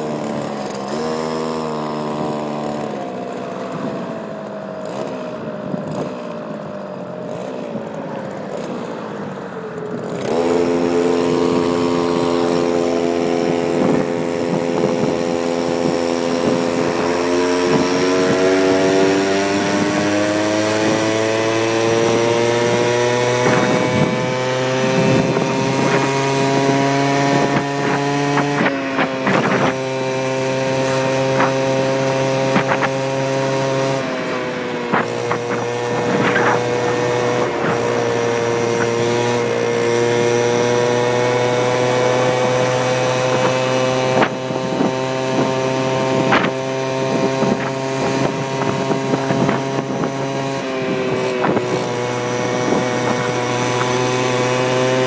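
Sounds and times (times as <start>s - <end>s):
scooter two-stroke engine running: 0.0s - 55.0s.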